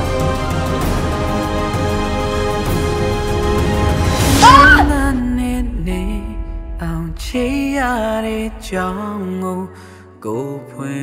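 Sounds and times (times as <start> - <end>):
steady deep bass: 0.0 - 9.3.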